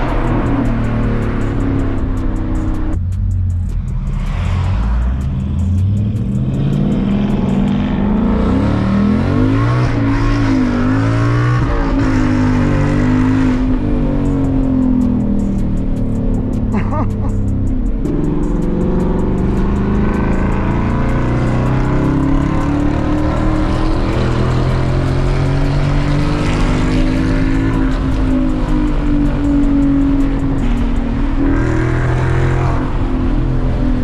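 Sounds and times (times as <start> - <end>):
car engine deep rumble revving: 0.0 - 34.0.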